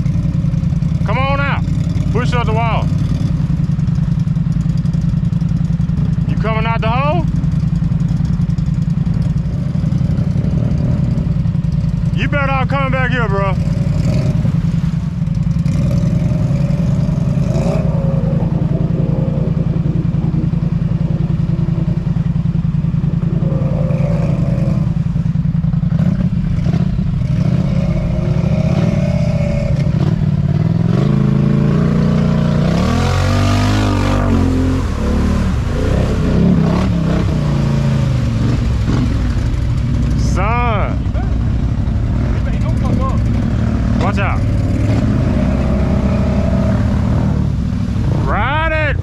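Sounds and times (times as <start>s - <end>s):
atv engine revving: 0.0s - 49.0s.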